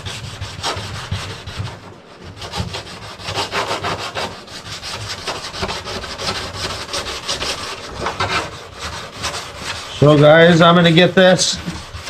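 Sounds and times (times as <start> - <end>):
sandpaper rubbing on car hood: 0.0 - 12.0.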